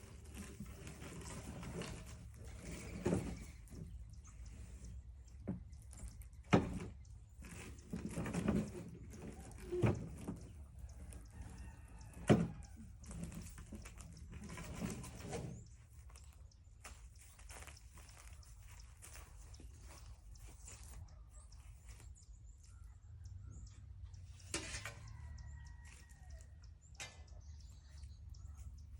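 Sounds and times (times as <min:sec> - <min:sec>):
scraping and rustling: 0:00.0 - 0:22.3, 0:24.4 - 0:26.6.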